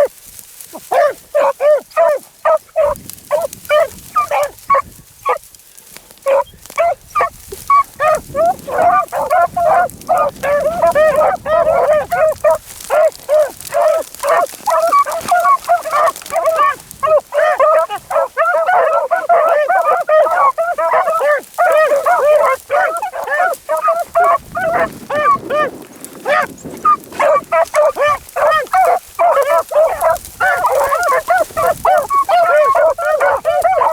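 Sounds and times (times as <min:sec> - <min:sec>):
hounds baying: 0:00.0 - 0:05.5, 0:06.2 - 0:33.9.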